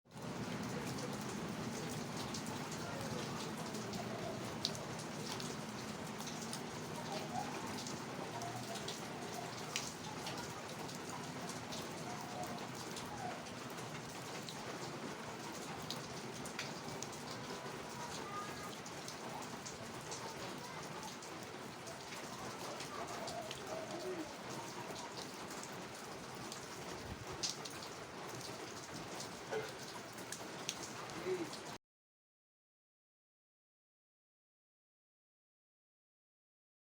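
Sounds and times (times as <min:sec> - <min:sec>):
steady rain: 0:00.1 - 0:31.8
raindrop hits: 0:00.3 - 0:31.8.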